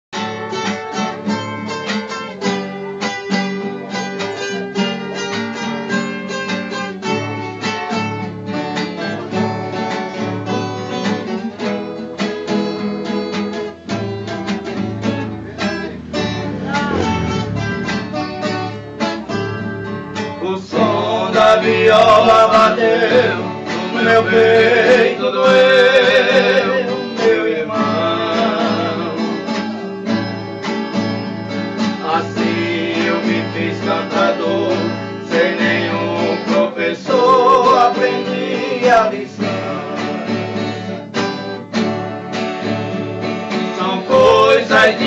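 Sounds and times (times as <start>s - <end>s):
guitar and bass accompaniment: 0.1s - 45.0s
plucked string melody: 0.2s - 36.4s.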